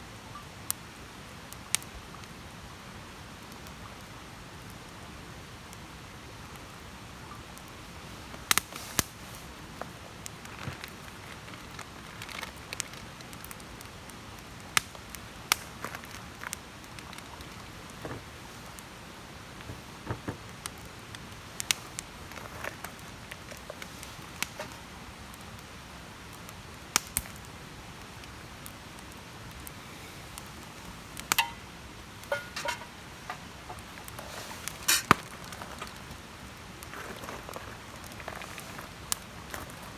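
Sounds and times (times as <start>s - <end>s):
campfire hissing: 0.0s - 39.9s
burning wood crackling and popping: 0.2s - 39.9s.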